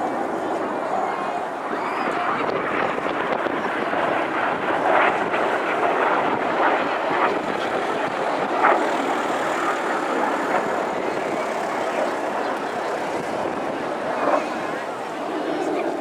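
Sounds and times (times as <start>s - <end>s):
aircraft engine drone: 0.0s - 16.0s.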